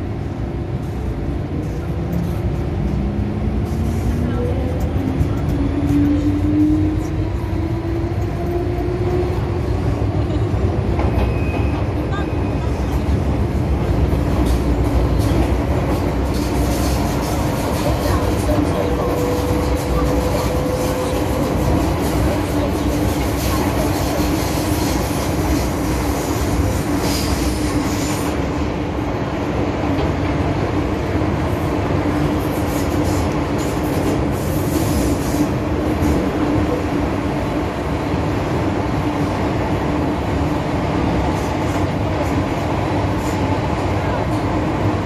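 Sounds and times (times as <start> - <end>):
train wheels rumbling: 0.0 - 45.0.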